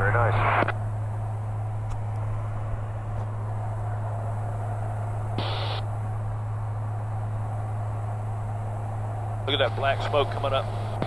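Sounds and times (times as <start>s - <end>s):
light aircraft engine drone: 0.0s - 11.0s.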